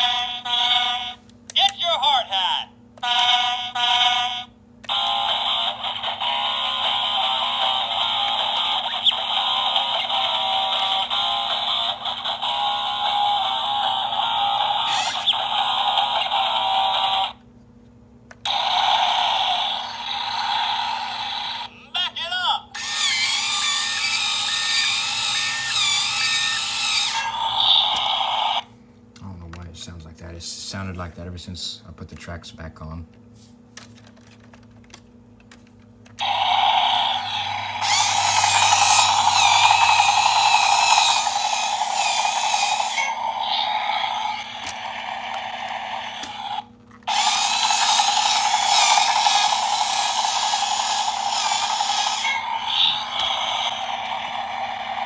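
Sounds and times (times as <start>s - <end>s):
tinny toy electronic sound: 0.0s - 2.2s, 3.0s - 17.4s, 18.4s - 21.7s, 22.8s - 28.7s, 36.2s - 55.0s.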